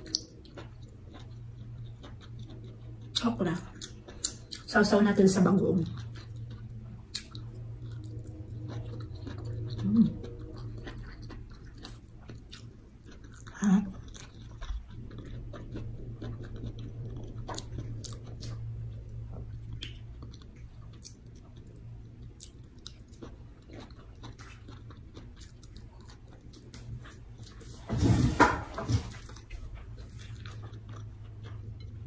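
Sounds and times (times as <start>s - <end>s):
person chewing with smacking: 0.0s - 32.0s
steady low hum: 0.0s - 32.0s.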